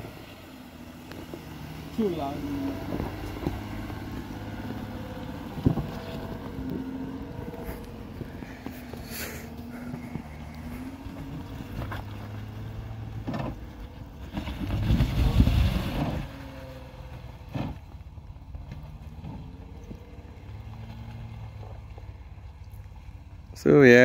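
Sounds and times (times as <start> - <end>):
off-road engine running: 0.0 - 24.0.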